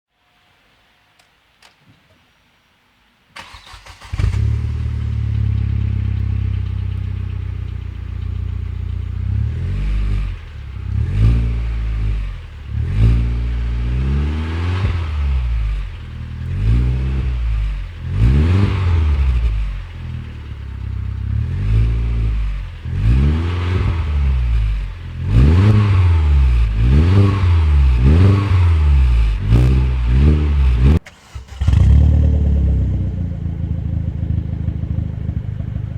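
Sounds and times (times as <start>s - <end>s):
car engine revving: 3.4s - 35.9s
car engine starting: 3.4s - 35.9s.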